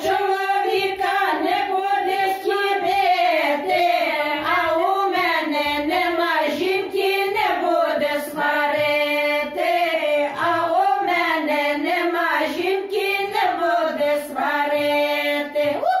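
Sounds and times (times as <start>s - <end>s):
women singing unaccompanied: 0.0s - 16.0s.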